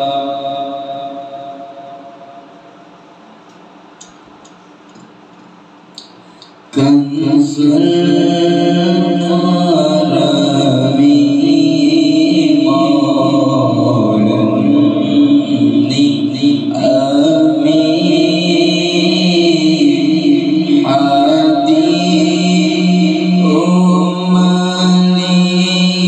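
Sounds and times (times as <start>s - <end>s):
chanted voice: 0.0s - 3.4s, 6.7s - 26.0s.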